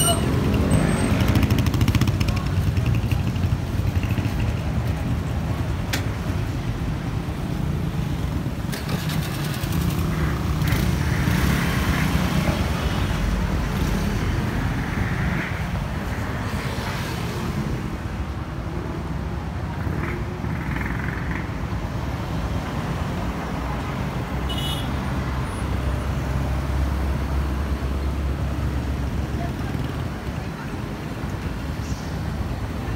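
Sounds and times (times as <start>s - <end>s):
steady low traffic rumble: 0.0s - 32.9s
vehicle engines passing: 0.0s - 32.9s.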